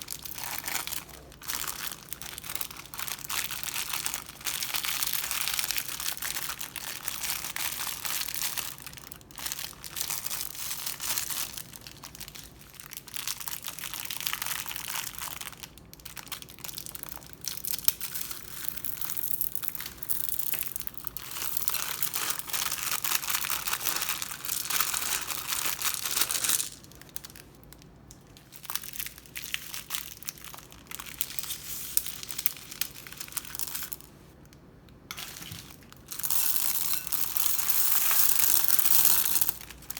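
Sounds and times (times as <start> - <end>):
crunchy slime crackling: 0.0 - 34.1, 35.1 - 39.9.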